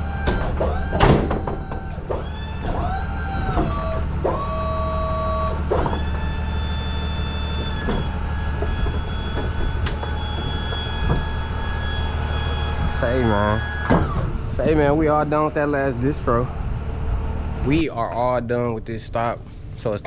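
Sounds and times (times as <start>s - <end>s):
high steady tones bending upward: 0.0s - 17.8s
truck engine rumbling: 0.0s - 20.0s.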